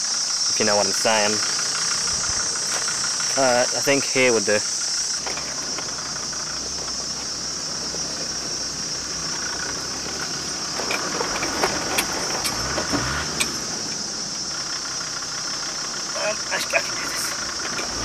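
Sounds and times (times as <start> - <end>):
diesel engine at low revs: 0.0 - 18.0
insect chorus: 0.0 - 18.0.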